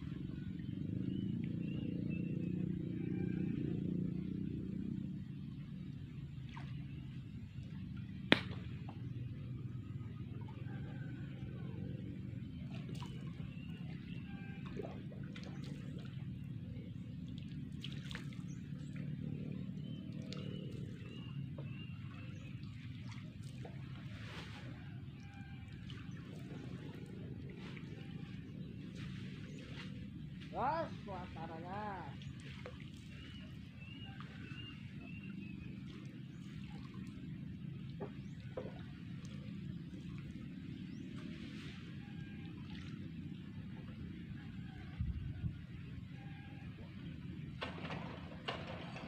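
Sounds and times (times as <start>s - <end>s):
steady low rumble: 0.0s - 49.0s
water lapping: 0.0s - 49.0s.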